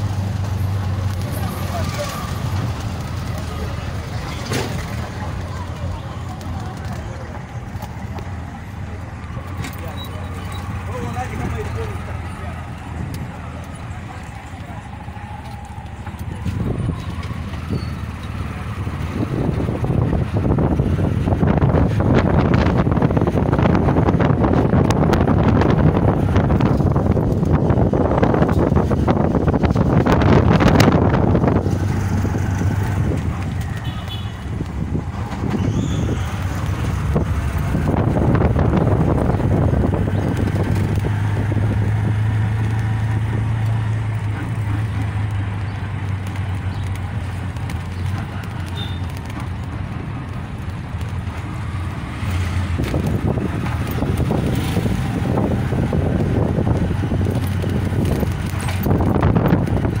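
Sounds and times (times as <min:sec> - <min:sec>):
auto-rickshaw engine humming: 0:00.0 - 1:00.0
wind and road noise: 0:00.0 - 1:00.0.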